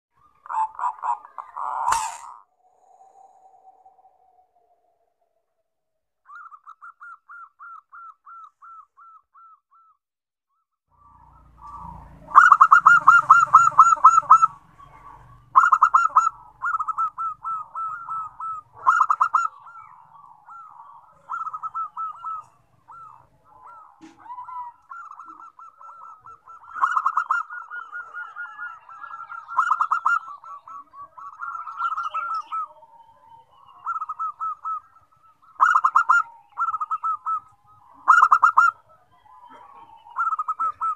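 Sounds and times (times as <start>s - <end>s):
doves cooing: 0.2s - 5.2s, 6.3s - 9.9s, 11.0s - 40.9s.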